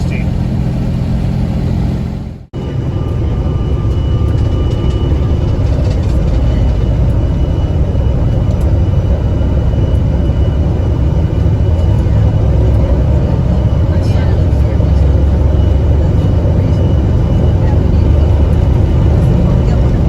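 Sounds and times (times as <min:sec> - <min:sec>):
vehicle driving at highway speed: 0:00.0 - 0:20.0.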